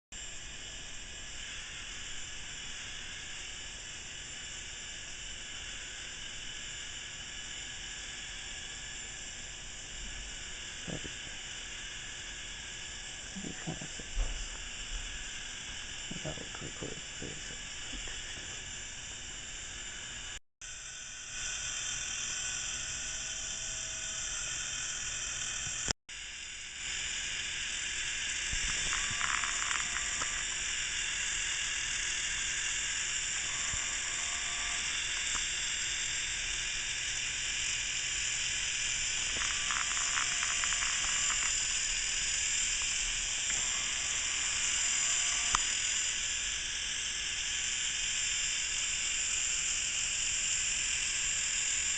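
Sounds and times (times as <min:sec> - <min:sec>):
toy ride motor whirring rattle: 0:00.2 - 0:51.9.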